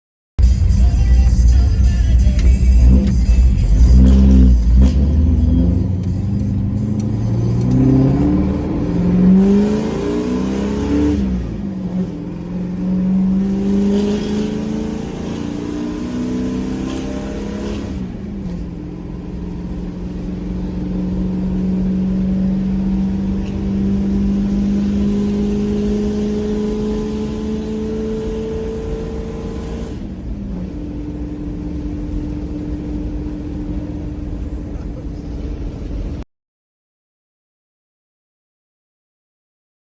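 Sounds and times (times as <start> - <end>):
truck engine accelerating: 0.4 - 36.2.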